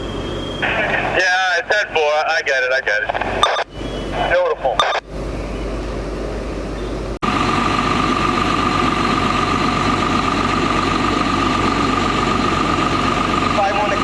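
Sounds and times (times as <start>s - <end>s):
fire engine whining: 0.0s - 14.0s.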